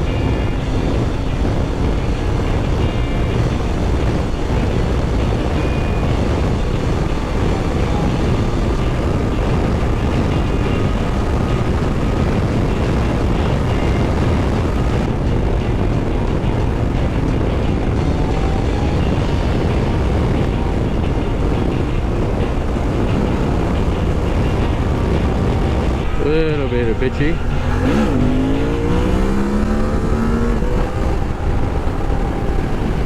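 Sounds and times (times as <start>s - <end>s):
motorcycle engine running: 0.0s - 33.0s
road noise on dirt tracks: 0.0s - 33.0s.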